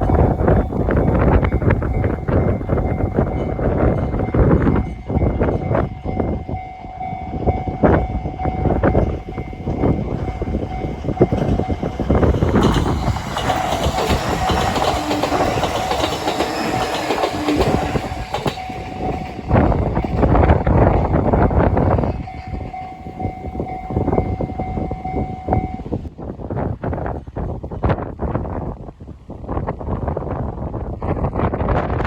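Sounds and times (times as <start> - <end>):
level crossing warning bell: 0.0 - 26.1
train passing: 0.0 - 26.2
wind buffeting microphone: 0.0 - 32.0.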